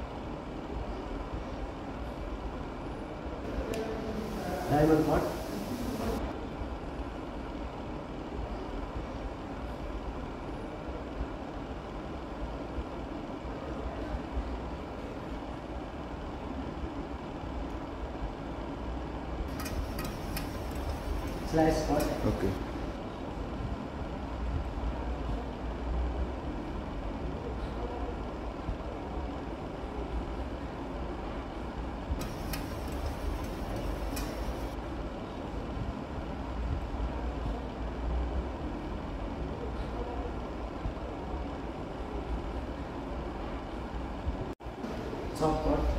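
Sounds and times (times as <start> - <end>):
ventilation fan rumble and hiss: 0.0 - 45.9.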